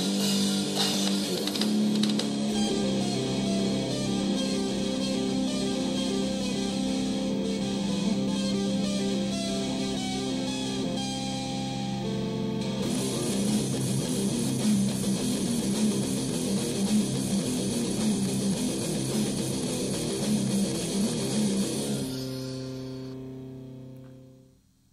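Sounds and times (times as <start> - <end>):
guitar-driven rock song: 0.0 - 22.8.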